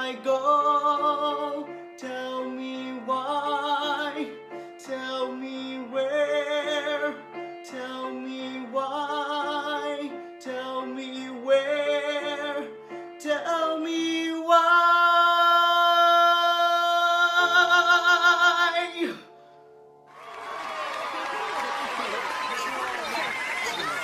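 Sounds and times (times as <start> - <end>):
man singing with vibrato: 0.0 - 19.3.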